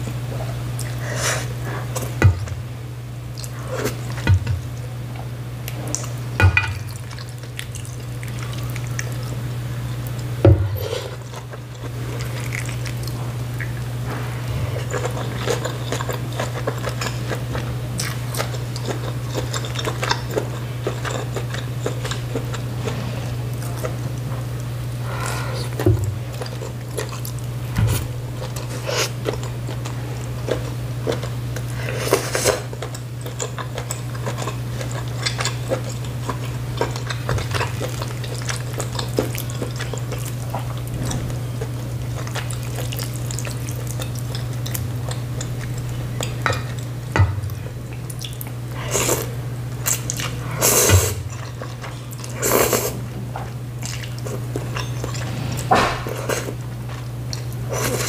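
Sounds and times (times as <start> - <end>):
steady low hum: 0.0 - 58.0
chewing: 5.6 - 58.0.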